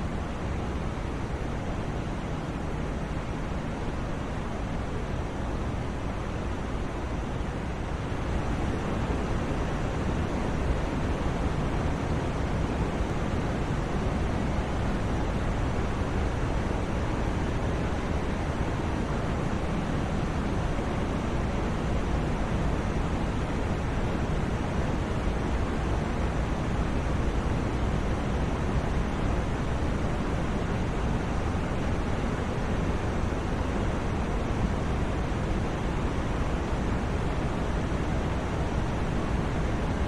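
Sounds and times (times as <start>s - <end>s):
white noise hiss: 0.0s - 40.0s.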